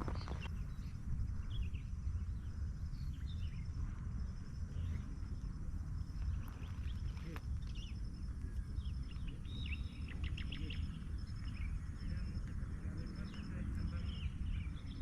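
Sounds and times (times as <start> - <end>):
birds chirping: 0.0 - 15.0
faint insect trill: 0.0 - 15.0.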